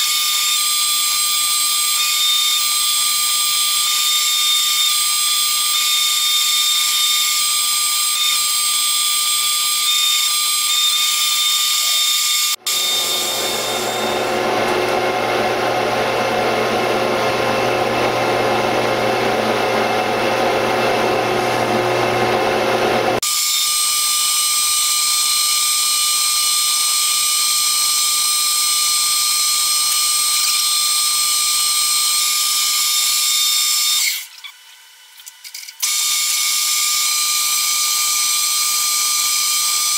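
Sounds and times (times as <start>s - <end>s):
metal lathe cutting steel: 0.0s - 34.3s
high-pitched lathe whine: 0.0s - 39.9s.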